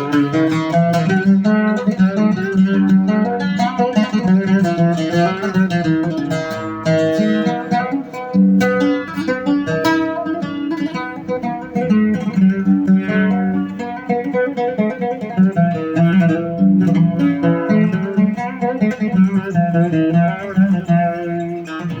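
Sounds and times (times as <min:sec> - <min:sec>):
oud melody: 0:00.0 - 0:22.0.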